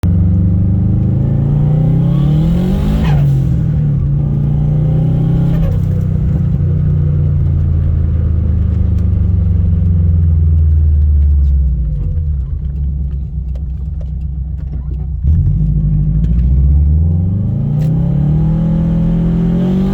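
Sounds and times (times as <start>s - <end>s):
car engine accelerating: 0.0s - 19.9s.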